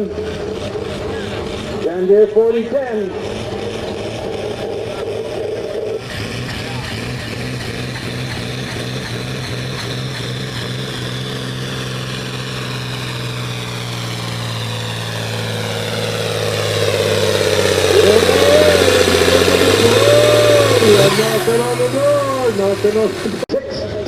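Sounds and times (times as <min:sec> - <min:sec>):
tractor engine running hard: 0:00.0 - 0:24.0.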